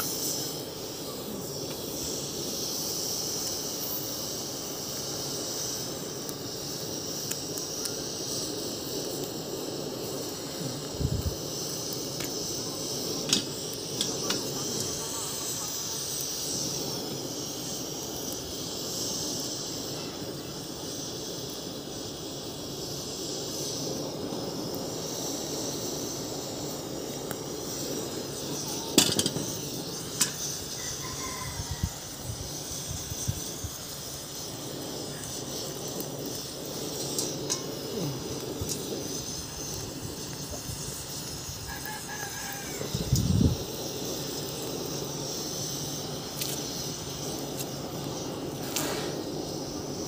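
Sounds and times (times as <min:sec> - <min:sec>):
gas burner flame rushing: 0:00.0 - 0:50.0.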